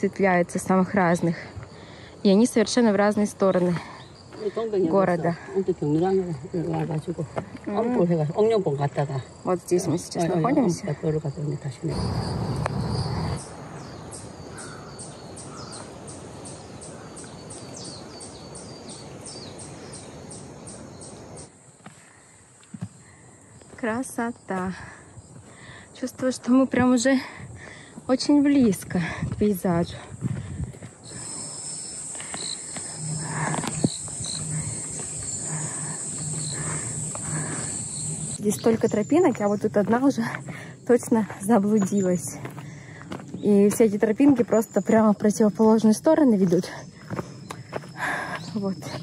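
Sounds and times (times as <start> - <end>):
cicada pulsing call: 0.0 - 49.0
faint lower insect calls: 0.0 - 49.0.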